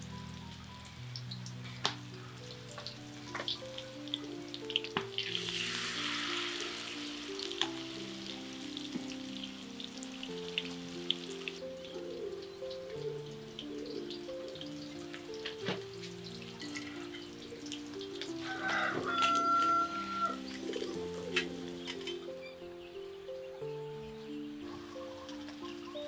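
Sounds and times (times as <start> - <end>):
batter frying in hot oil: 0.0 - 22.4.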